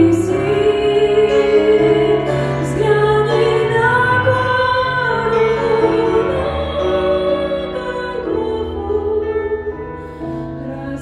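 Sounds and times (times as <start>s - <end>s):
slow religious song singing: 0.0s - 11.0s.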